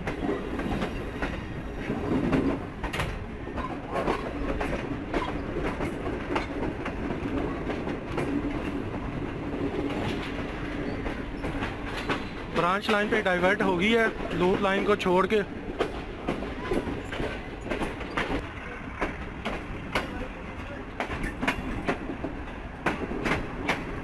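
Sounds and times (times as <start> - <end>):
train wheels rumbling on rail: 0.0 - 24.0
wheels clacking over rail joints: 0.0 - 24.0.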